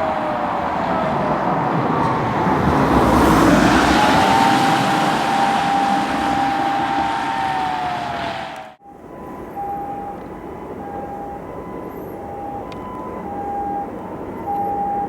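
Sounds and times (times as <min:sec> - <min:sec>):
emergency vehicle siren wailing: 0:00.0 - 0:15.0
engine and tyre noise: 0:00.0 - 0:15.0.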